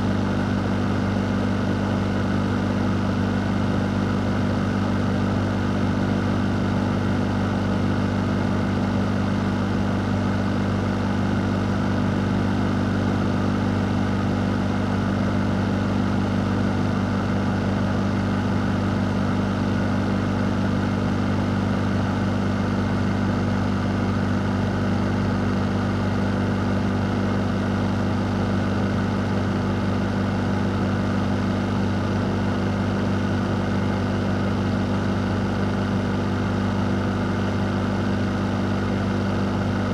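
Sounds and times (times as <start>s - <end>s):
fan motor hum: 0.0s - 39.9s.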